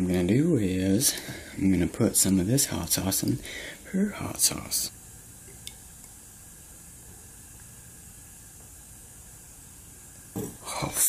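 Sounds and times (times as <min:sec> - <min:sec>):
low hiss of recording noise: 0:00.0 - 0:11.0.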